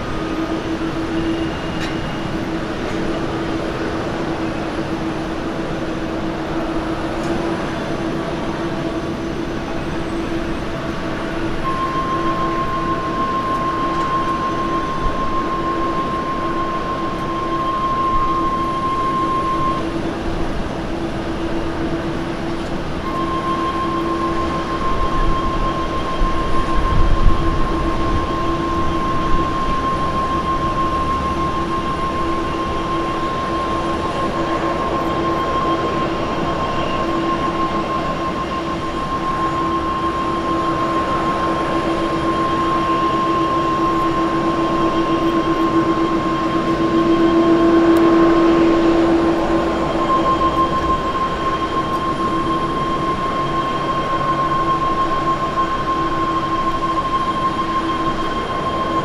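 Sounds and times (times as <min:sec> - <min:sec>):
high engine whistle: 0:00.0 - 0:59.0
jet engine drone: 0:00.0 - 0:59.0.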